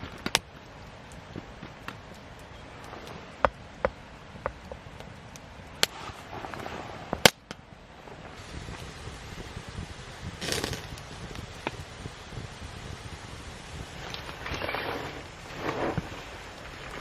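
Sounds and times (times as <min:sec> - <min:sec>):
campfire crackling: 0:00.0 - 0:17.0
wood popping in fire: 0:00.0 - 0:17.0.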